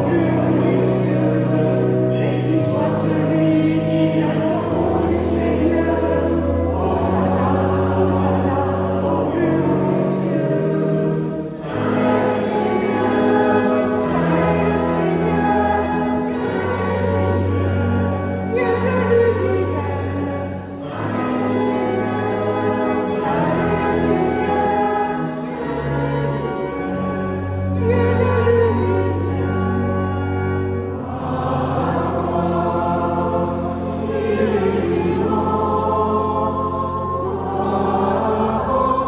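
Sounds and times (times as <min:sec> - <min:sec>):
church organ chords: 0:00.0 - 0:39.0
congregation singing a hymn: 0:00.0 - 0:39.0.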